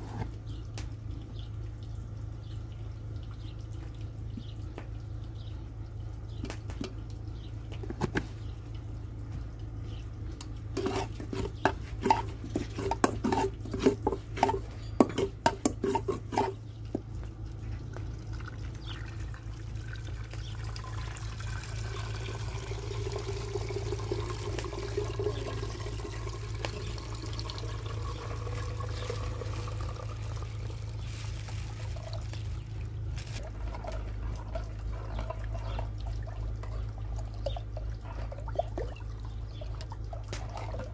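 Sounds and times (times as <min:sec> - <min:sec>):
pouring and sloshing in pot: 0:01.0 - 0:40.9.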